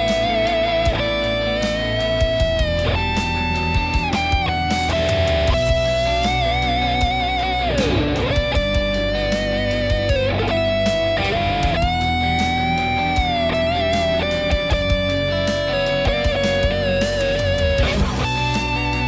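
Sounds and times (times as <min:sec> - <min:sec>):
electric guitar lead with vibrato: 0:00.0 - 0:19.0.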